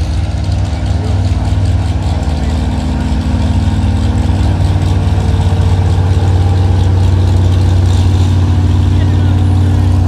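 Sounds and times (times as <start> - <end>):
pickup engine running hard: 0.0 - 10.0.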